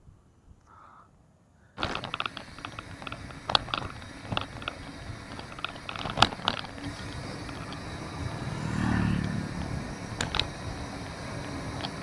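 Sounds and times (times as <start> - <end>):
bicycle rattling on rough concrete: 1.8 - 12.0.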